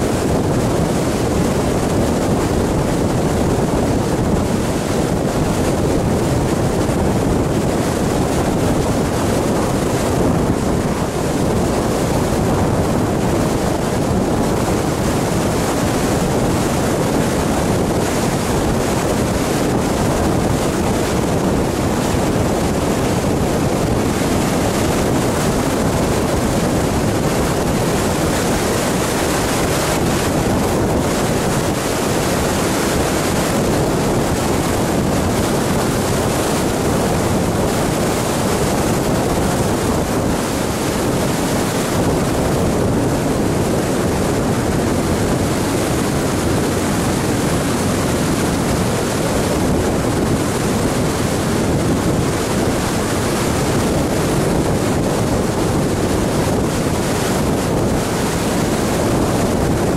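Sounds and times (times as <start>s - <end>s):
car tyre and wind noise: 0.0s - 59.9s
wind blowing on microphone: 0.0s - 59.9s.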